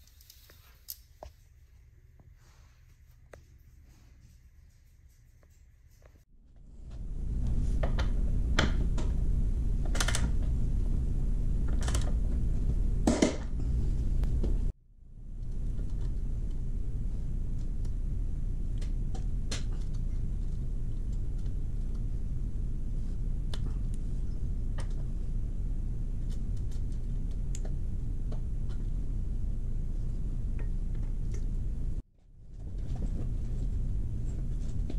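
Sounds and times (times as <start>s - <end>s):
steady low rumble: 6.2s - 34.9s.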